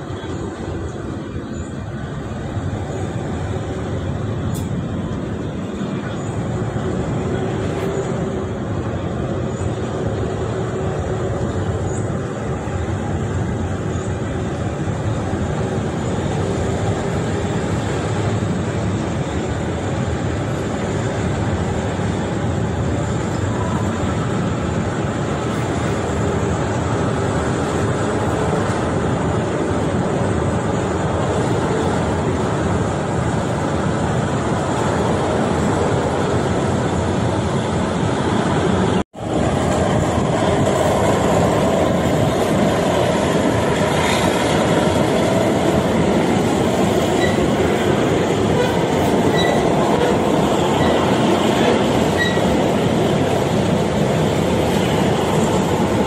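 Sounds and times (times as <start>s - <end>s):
passenger train running: 0.0s - 56.0s.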